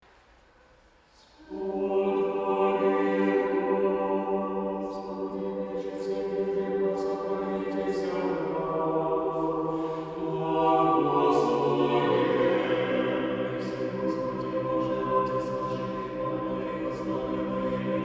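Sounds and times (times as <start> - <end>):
choir singing slow chant: 1.1 - 18.0.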